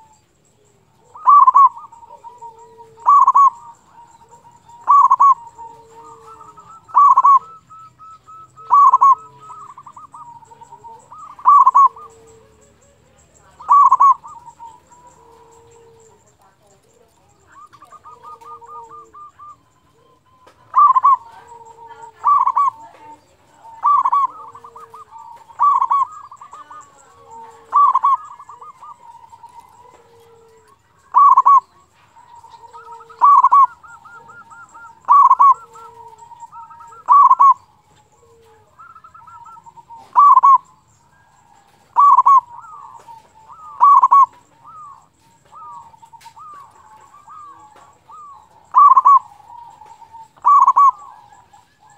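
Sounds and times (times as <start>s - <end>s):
dove song with ringing coo: 0.0s - 51.9s.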